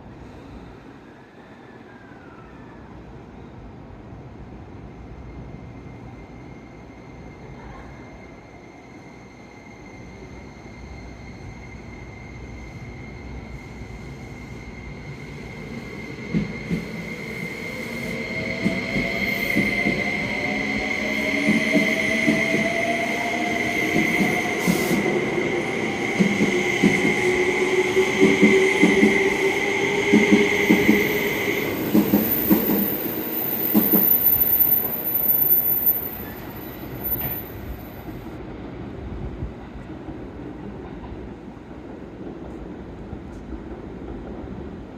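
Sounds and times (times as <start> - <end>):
train wheels squealing: 0.2 - 38.3.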